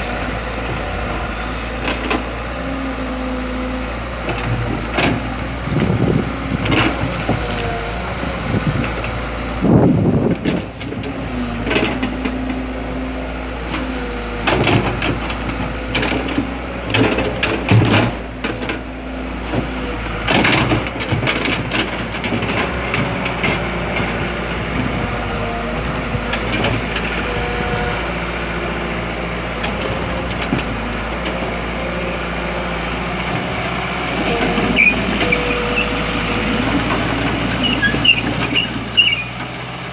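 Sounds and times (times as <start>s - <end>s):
machinery clanks and knocks: 0.0s - 2.4s, 4.2s - 7.8s, 8.5s - 12.8s, 13.6s - 39.9s
diesel engine drone: 0.0s - 39.9s.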